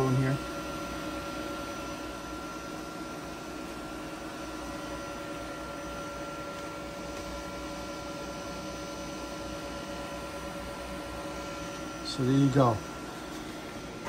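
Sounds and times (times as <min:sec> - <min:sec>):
cooling fans hissing: 0:00.0 - 0:14.0
fan whining tones: 0:00.0 - 0:14.0.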